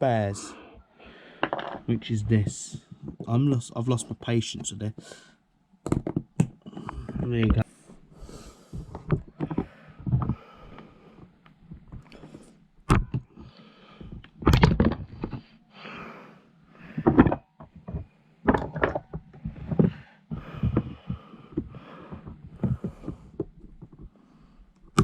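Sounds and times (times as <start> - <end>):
plastic handling noise: 1.4 - 5.0, 5.8 - 8.1, 8.7 - 15.6, 16.8 - 25.0.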